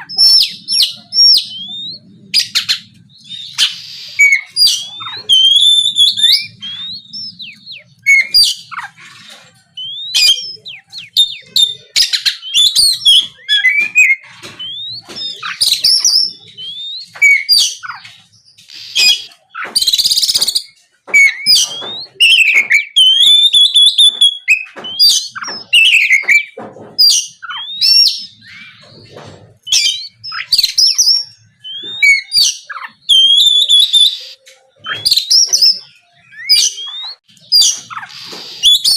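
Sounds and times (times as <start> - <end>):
bird singing whistled song: 0.0 - 29.0, 29.6 - 38.9.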